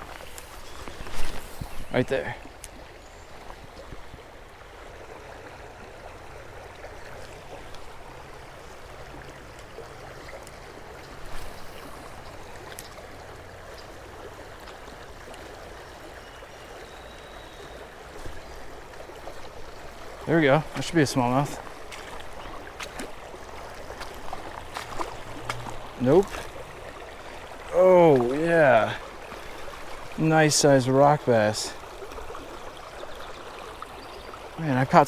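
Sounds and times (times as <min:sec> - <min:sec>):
creek water running: 0:00.0 - 0:35.0.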